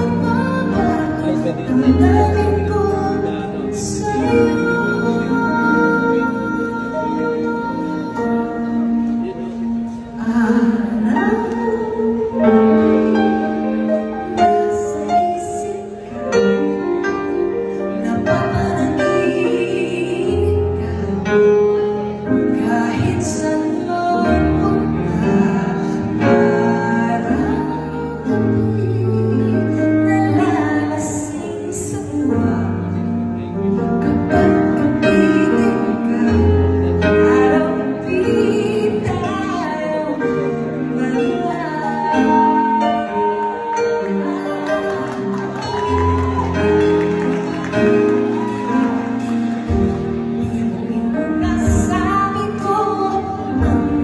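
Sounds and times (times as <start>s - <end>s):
instrumental accompaniment: 0.0s - 54.0s
woman singing into microphone: 0.0s - 54.0s.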